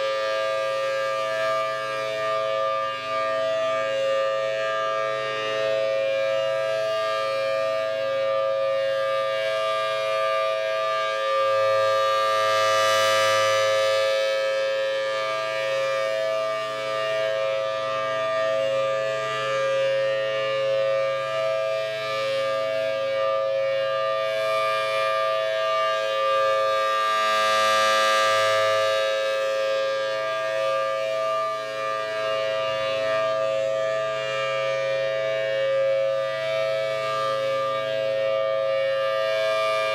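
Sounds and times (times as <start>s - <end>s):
civil defense siren steady tone: 0.0s - 39.9s.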